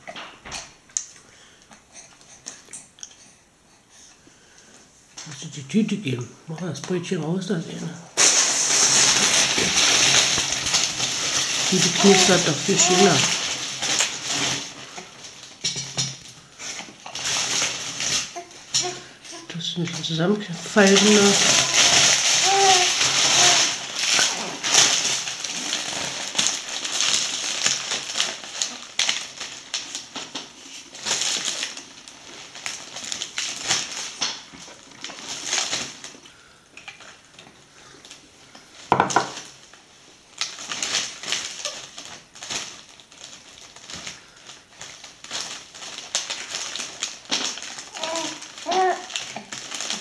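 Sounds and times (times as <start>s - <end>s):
paper bag crinkling: 6.7s - 15.6s, 16.4s - 50.0s.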